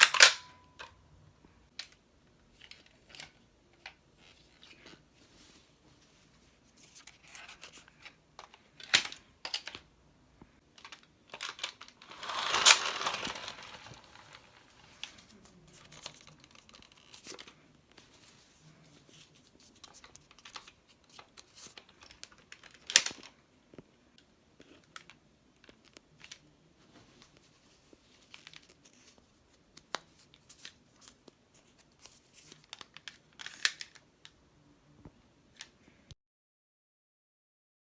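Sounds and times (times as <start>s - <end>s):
rustling crinkling noise: 1.4s - 9.8s, 10.4s - 34.4s.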